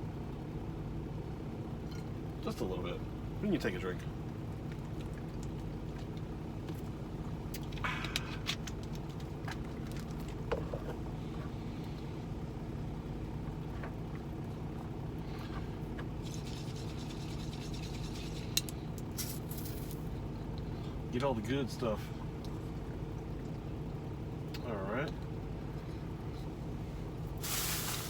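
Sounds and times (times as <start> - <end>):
diesel truck engine idling: 0.0 - 17.1, 18.0 - 28.0.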